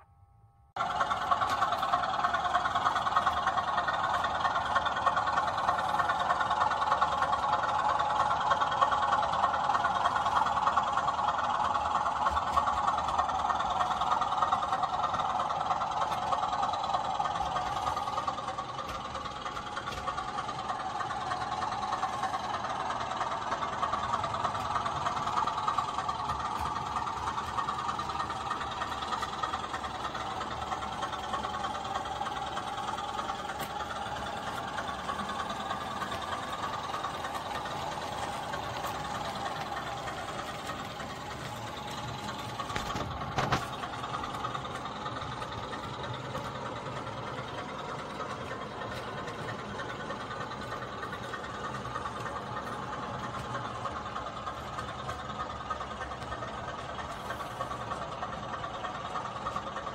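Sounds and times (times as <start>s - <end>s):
model train diesel engine drone: 0.0s - 59.9s.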